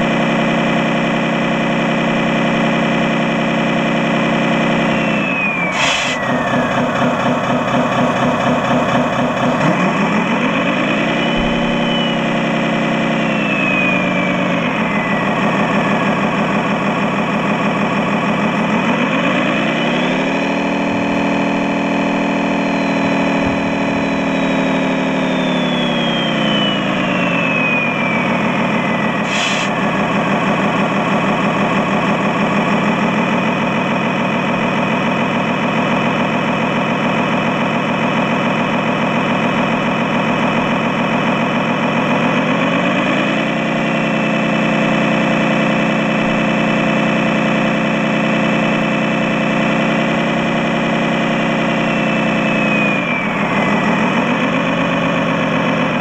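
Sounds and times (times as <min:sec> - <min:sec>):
model truck engine running: 0:00.0 - 0:56.0.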